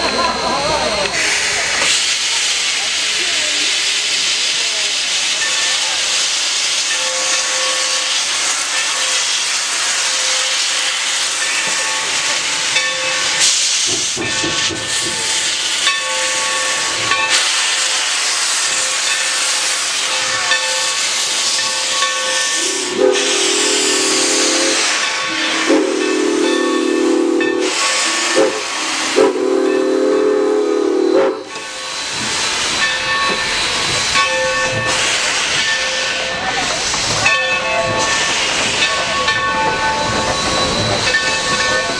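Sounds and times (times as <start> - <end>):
steam locomotive hissing: 0.0 - 41.9.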